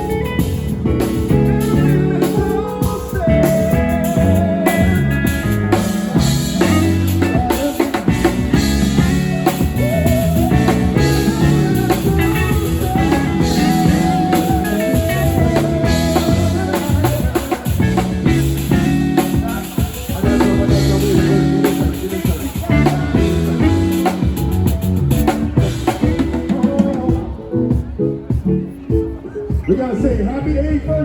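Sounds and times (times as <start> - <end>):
wavering melody line: 0.0 - 26.8
drum kit beat: 0.0 - 30.2
bass line: 0.0 - 31.0.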